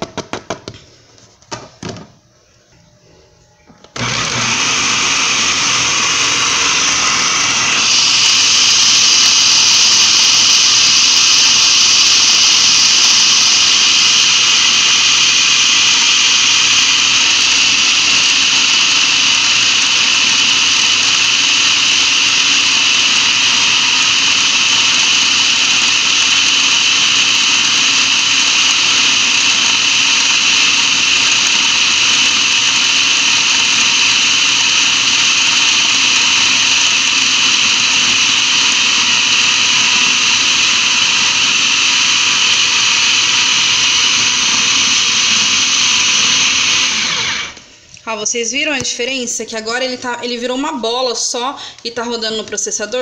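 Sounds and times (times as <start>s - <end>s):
food processor running: 3.9s - 47.7s.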